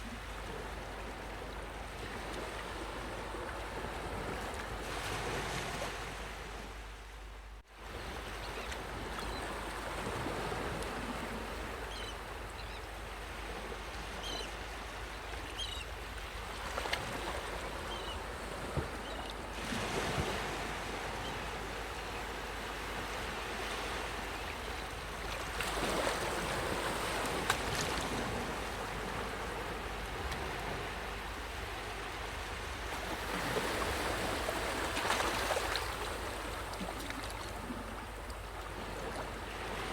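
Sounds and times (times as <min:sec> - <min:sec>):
waves breaking: 0:00.0 - 0:06.9, 0:07.9 - 0:39.9.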